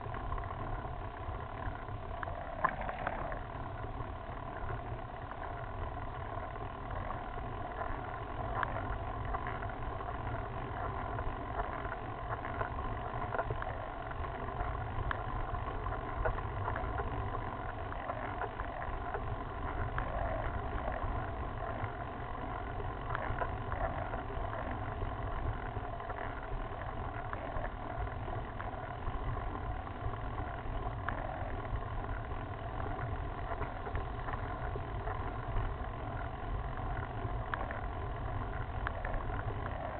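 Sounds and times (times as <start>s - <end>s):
bicycle road noise: 0.0s - 39.9s.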